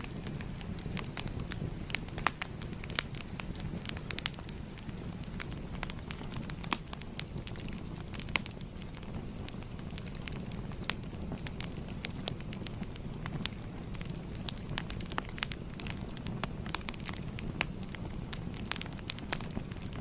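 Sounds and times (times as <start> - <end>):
fire popping: 0.0 - 20.0
fire rumbling: 0.0 - 20.0.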